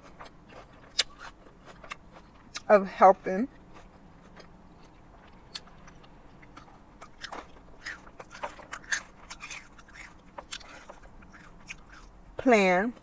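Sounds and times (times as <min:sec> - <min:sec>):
person chewing crunchy food: 0:00.0 - 0:12.4.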